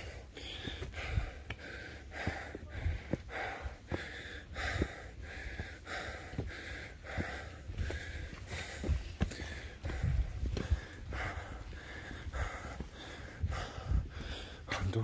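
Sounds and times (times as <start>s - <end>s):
footfalls thudding on steps: 0.0s - 14.9s
person panting hard: 0.0s - 15.0s.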